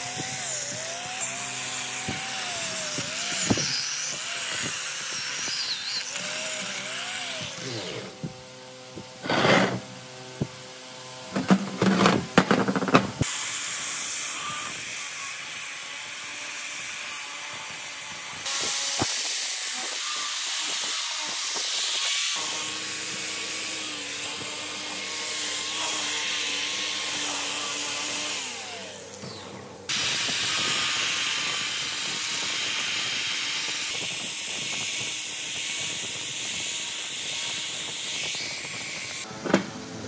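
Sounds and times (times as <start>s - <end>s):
angle grinder sanding rusty metal: 0.0s - 39.3s.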